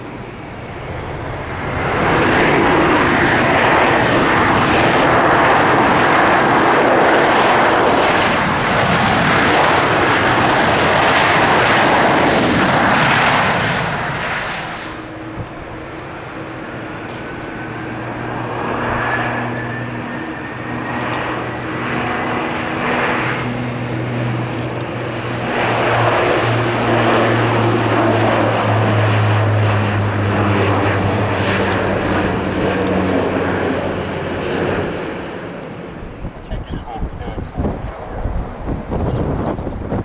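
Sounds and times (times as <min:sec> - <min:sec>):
turboprop plane taking off: 0:00.0 - 0:40.0.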